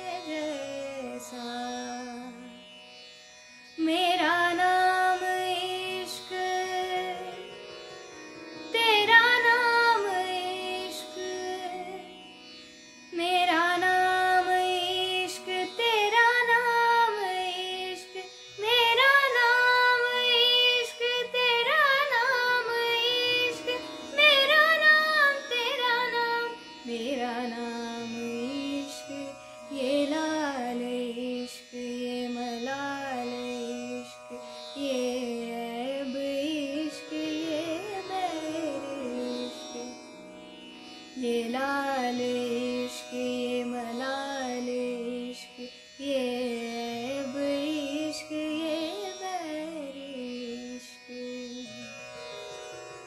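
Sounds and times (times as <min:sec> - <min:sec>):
woman singing: 0:00.0 - 0:02.6, 0:03.8 - 0:07.6, 0:08.7 - 0:12.2, 0:13.1 - 0:40.1, 0:41.2 - 0:51.9.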